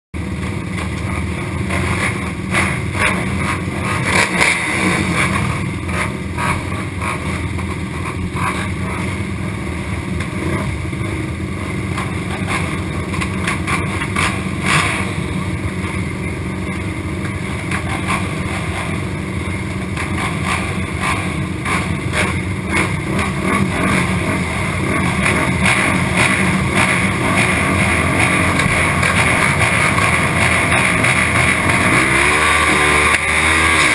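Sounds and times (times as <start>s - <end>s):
quad engines running: 0.2s - 33.9s.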